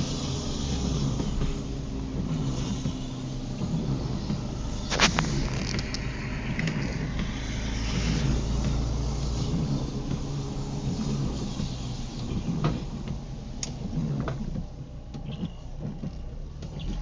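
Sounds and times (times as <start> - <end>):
car engine and road noise: 0.0 - 17.0
rain on car: 0.0 - 17.0.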